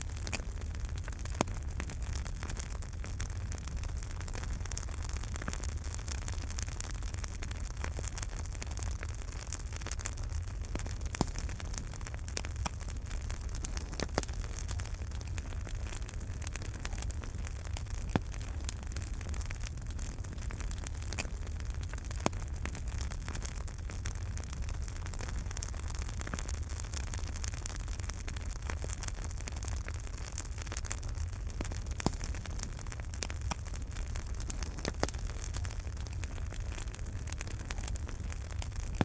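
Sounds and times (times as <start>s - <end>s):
fire crackling and popping: 0.0s - 39.0s
wood fire rumbling and hissing: 0.0s - 39.0s.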